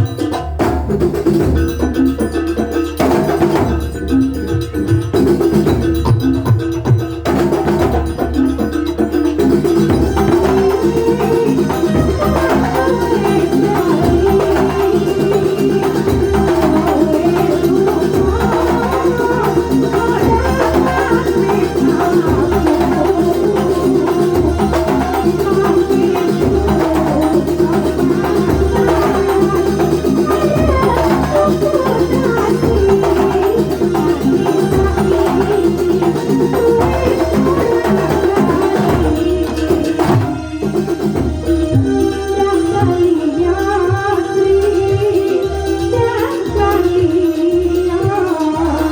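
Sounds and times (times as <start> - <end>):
wavering melody line: 0.0 - 45.4
drums beating steadily: 0.0 - 48.9.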